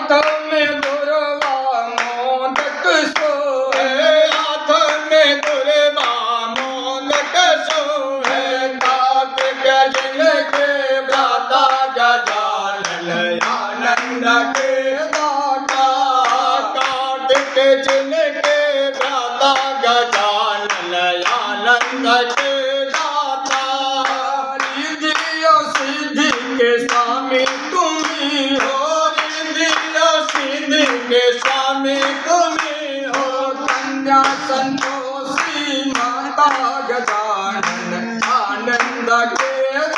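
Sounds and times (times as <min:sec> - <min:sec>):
rhythmic hand clapping: 0:00.0 - 0:39.9
voices singing a hymn: 0:00.0 - 0:39.9.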